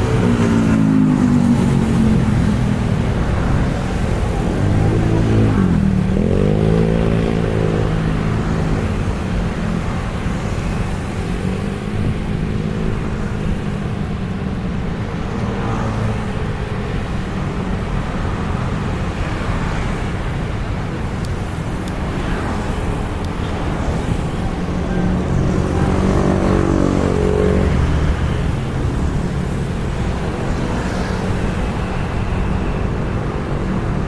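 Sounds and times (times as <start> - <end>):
road noise: 0.0 - 34.0
vehicle engines passing: 0.0 - 34.0.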